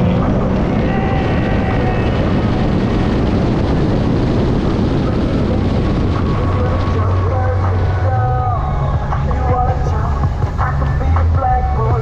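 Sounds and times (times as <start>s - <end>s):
jet ski engine running: 0.0s - 12.0s
wind and water rushing: 0.0s - 12.0s.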